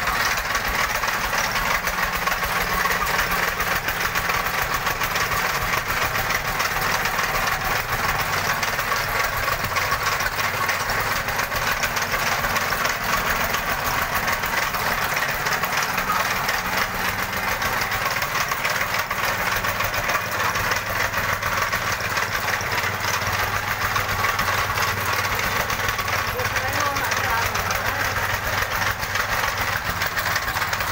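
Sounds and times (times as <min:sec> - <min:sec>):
tamping rammer engine running: 0:00.0 - 0:30.9.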